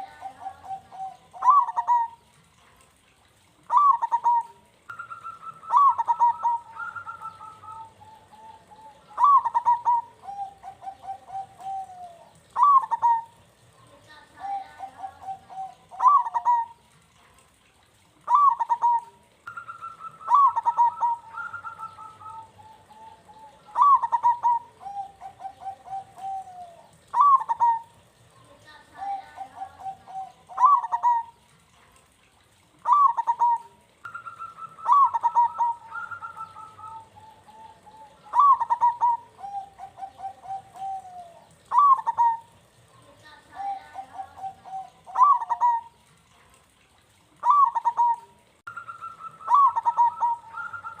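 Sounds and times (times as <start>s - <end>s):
dove cooing: 0.0s - 2.7s, 3.5s - 17.1s, 17.8s - 31.7s, 32.6s - 51.0s.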